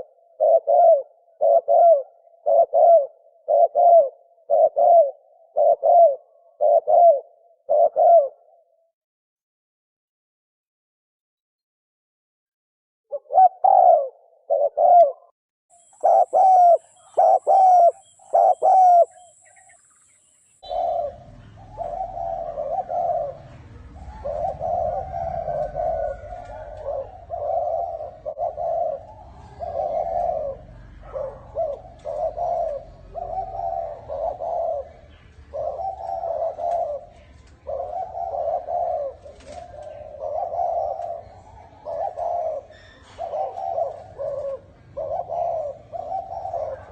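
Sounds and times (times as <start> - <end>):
dove cooing: 0.0 - 8.9, 13.1 - 46.9.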